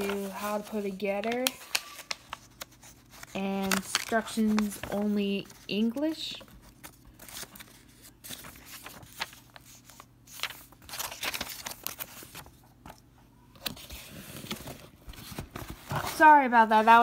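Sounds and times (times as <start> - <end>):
paper and cardboard rustling: 0.0 - 17.0.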